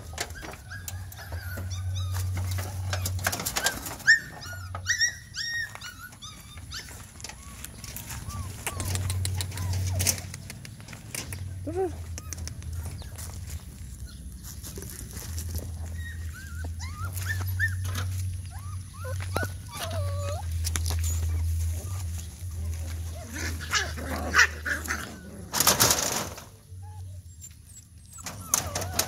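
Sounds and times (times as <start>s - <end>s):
puppies whimpering: 0.0s - 29.0s.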